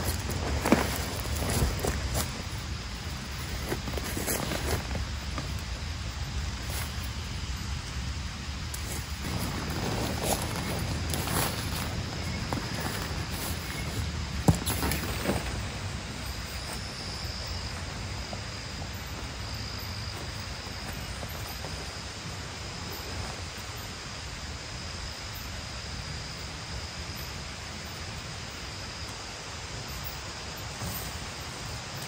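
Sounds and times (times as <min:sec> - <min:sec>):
faint high insect drone: 0:00.0 - 0:32.0
outdoor hiss: 0:00.0 - 0:32.0.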